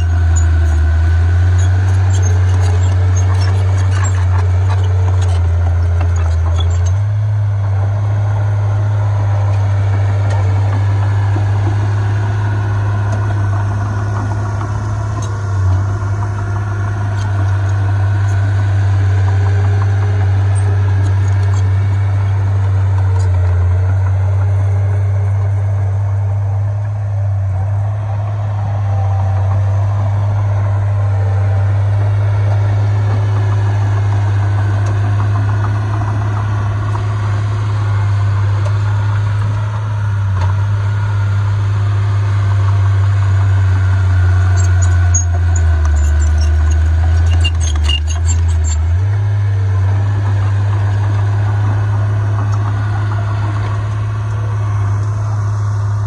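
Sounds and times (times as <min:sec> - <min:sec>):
heavy diesel machinery drone: 0:00.0 - 0:56.0.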